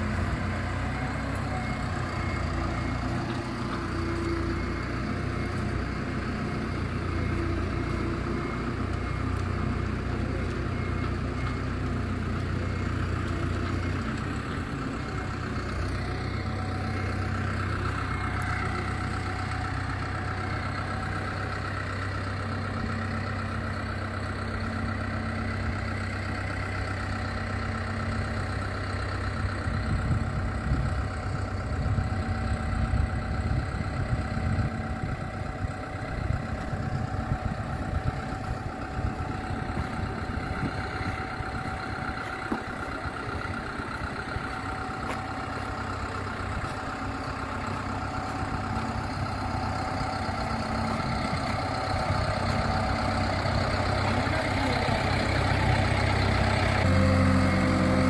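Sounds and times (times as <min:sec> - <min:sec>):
engine running with low hum: 0:00.0 - 0:58.0.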